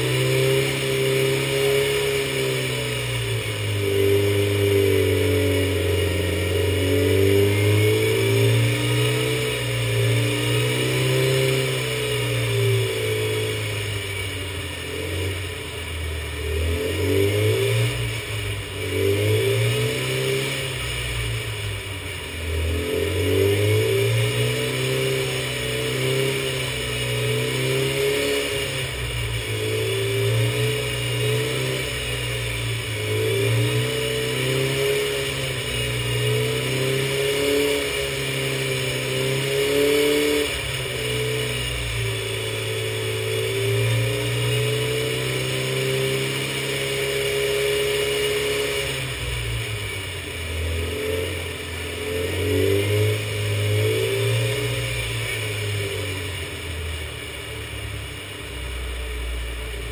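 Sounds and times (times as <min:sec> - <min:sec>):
car engine running: 0:00.0 - 0:59.9
steady high whine: 0:00.0 - 0:59.9.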